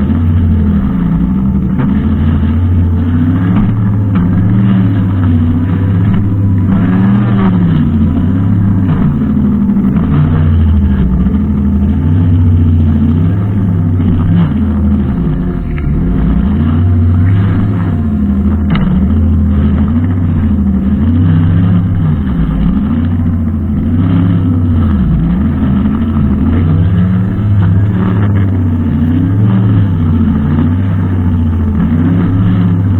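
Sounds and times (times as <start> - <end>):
brushcutter engine revving: 0.0 - 32.9.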